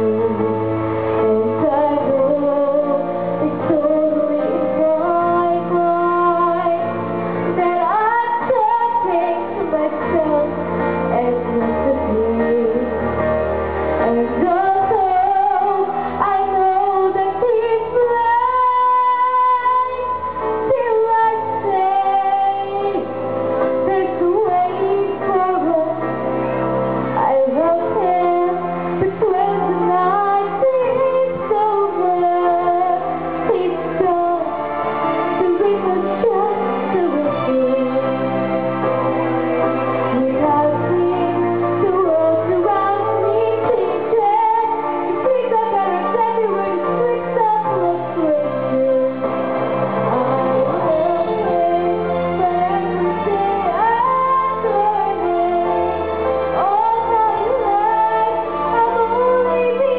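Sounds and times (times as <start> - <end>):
instrumental accompaniment: 0.0 - 59.9
girl singing a slow ballad: 1.2 - 6.8, 7.5 - 13.0, 14.0 - 23.1, 23.8 - 26.0, 27.2 - 34.6, 35.4 - 38.1, 40.1 - 49.2, 50.1 - 55.7, 56.6 - 59.9.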